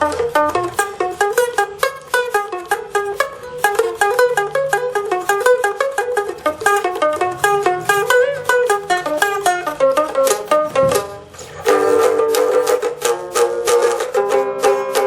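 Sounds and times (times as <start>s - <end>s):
box guitar fast plucked notes: 0.0s - 15.0s.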